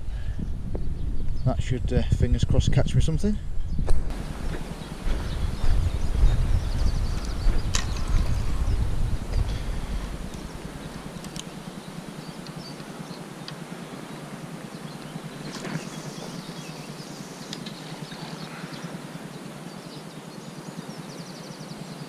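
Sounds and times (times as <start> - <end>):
outdoor breeze: 0.0 - 22.0.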